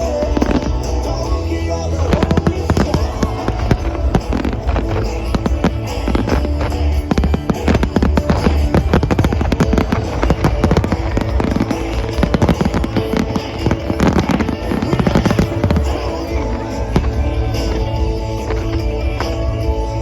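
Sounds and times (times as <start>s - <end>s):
fireworks bursting and crackling: 0.0s - 20.0s
music over loudspeakers: 0.0s - 20.0s.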